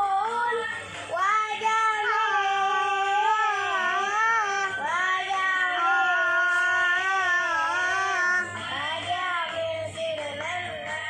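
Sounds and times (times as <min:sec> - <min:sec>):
child singing devotional song: 0:00.0 - 0:11.0.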